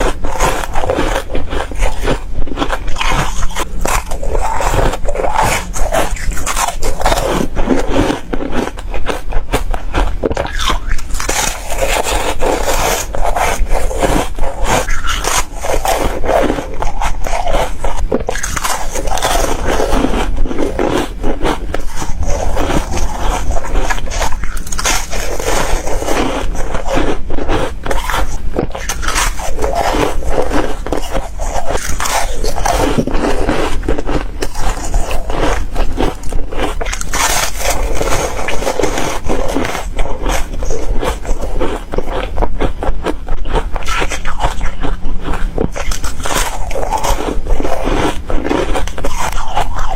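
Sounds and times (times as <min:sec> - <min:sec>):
crunchy food being chewed: 0:00.0 - 0:49.9.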